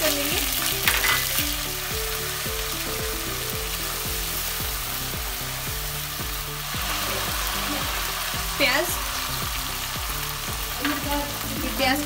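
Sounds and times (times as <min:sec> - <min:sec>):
soft background music: 0:00.0 - 0:12.0
spices sizzling in hot oil: 0:00.0 - 0:12.0.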